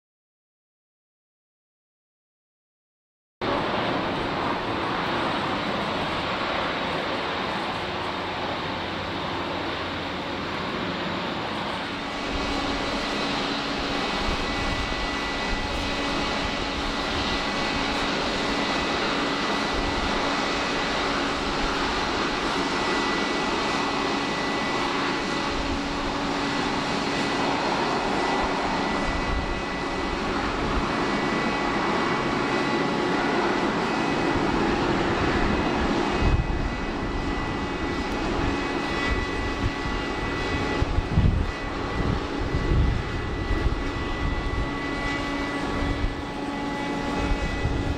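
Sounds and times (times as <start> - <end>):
jet engines rushing and whining: 3.4 - 47.9.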